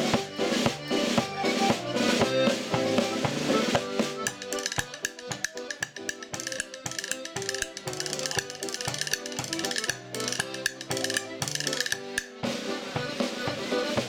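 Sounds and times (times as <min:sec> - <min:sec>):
accordion and banjo dance tune: 0:00.0 - 0:14.0.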